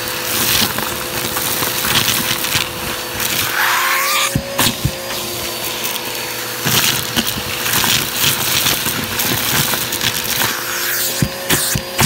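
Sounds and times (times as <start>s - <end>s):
debris rattling up hose: 0.0s - 12.0s
vacuum cleaner motor hum: 0.0s - 12.0s.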